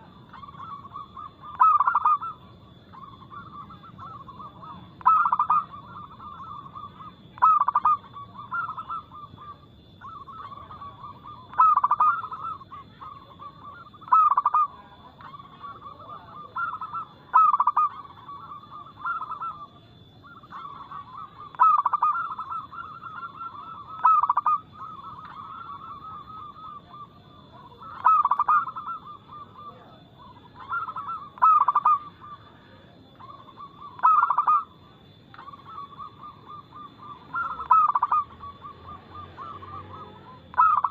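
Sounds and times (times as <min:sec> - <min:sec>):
doves cooing: 0:00.0 - 0:40.9
soft trilling bird calls: 0:00.0 - 0:40.9.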